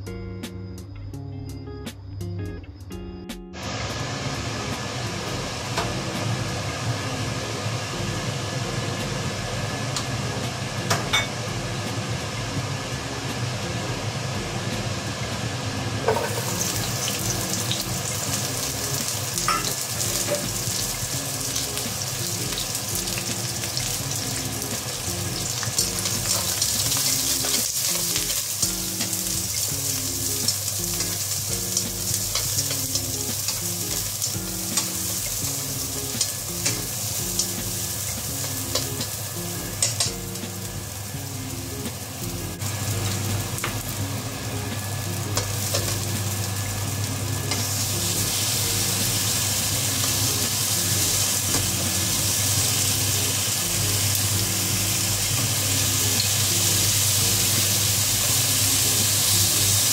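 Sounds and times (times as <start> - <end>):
background music: 0.0 - 59.9
vegetables sizzling in a wok: 3.6 - 59.9.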